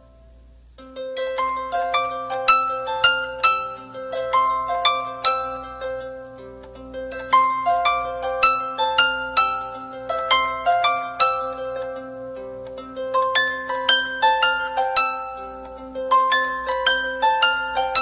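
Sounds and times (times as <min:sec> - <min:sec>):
plucked harp-like music: 0:00.0 - 0:18.0.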